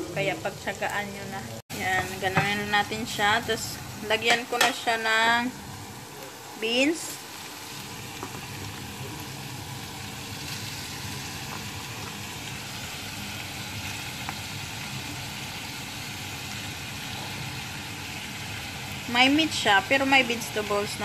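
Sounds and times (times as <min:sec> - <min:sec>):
meat and beans sizzling in a pan: 0:00.0 - 0:21.0.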